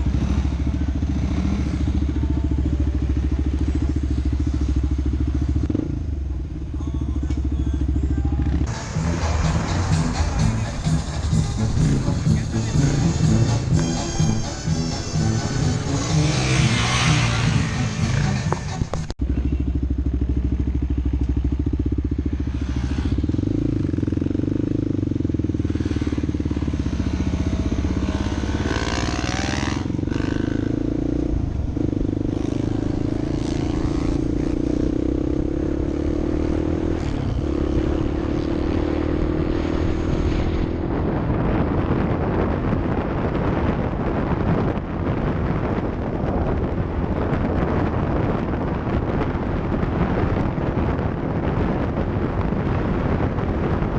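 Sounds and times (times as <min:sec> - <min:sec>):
off-road vehicle engine running: 0:00.0 - 0:53.9
wind: 0:00.0 - 0:53.9.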